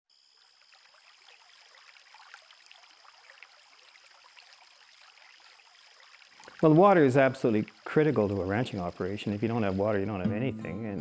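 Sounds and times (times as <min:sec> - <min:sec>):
creek trickling over stones: 0:00.2 - 0:10.2.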